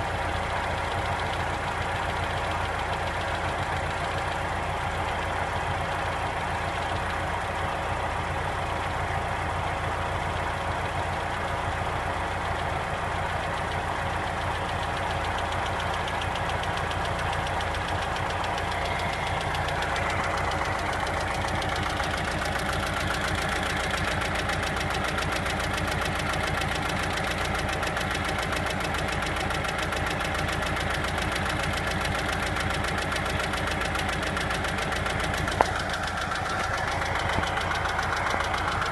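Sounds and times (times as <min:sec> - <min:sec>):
car engine idling: 0:00.0 - 0:38.9
fast knocking inside engine: 0:00.0 - 0:38.9.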